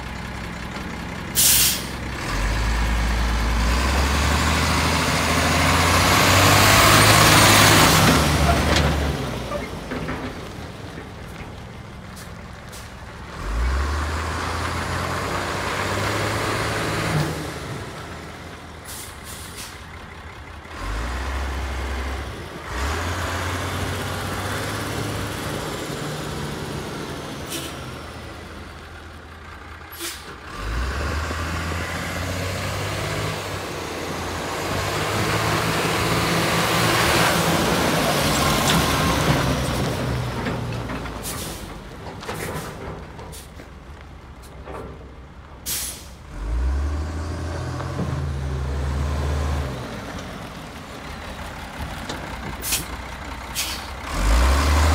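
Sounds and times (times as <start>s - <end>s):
diesel truck engine revving: 0.0s - 43.5s, 45.6s - 54.9s.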